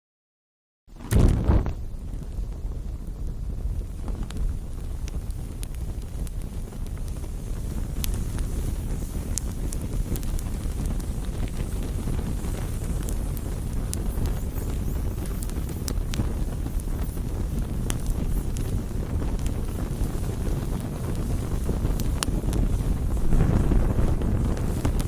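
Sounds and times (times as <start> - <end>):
fire crackles and pops: 0.9 - 25.0
wood fire rumbling: 0.9 - 25.0.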